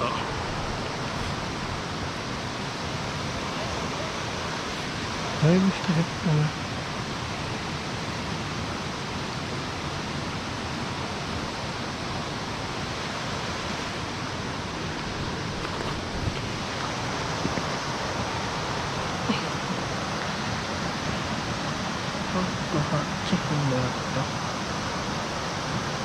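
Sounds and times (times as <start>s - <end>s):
rushing water hiss: 0.0s - 26.0s.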